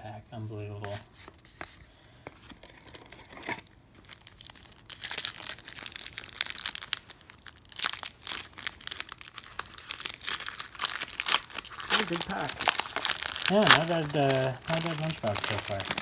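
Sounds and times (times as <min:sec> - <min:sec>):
card pack wrapper crinkling: 0:02.3 - 0:16.0.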